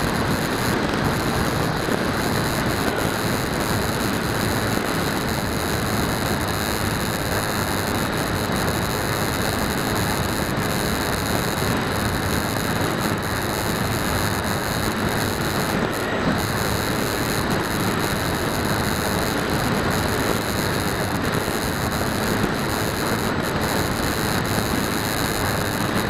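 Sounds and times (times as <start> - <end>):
electric motor and propeller drone: 0.0 - 26.0.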